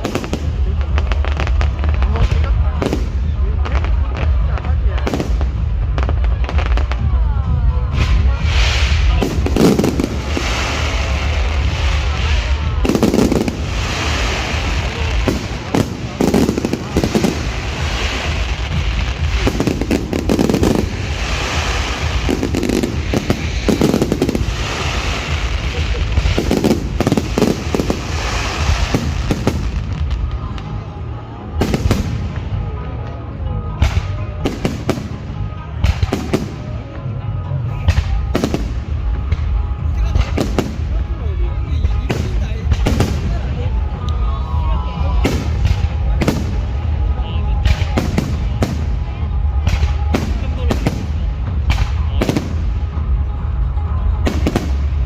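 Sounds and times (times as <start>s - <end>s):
fireworks bursting: 0.0s - 55.0s
music: 0.0s - 55.0s.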